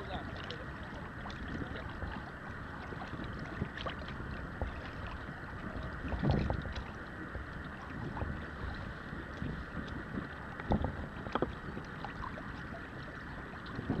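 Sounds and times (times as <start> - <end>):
water lapping against hull: 0.0 - 14.0
wind on microphone: 0.0 - 14.0.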